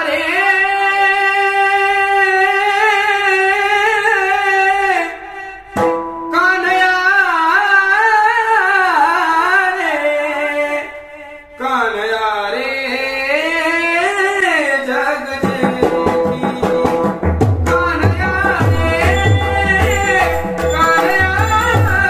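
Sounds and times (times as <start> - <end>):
man singing ornamented melody: 0.0 - 22.0.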